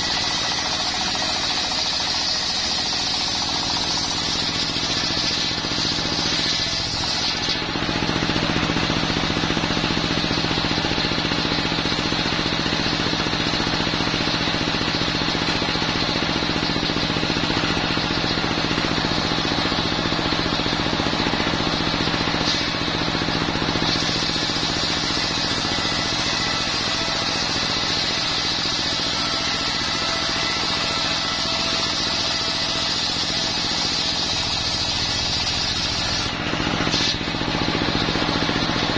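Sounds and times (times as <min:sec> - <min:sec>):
diesel engine running: 0:00.0 - 0:38.9
saw blade cutting timber: 0:00.0 - 0:38.9.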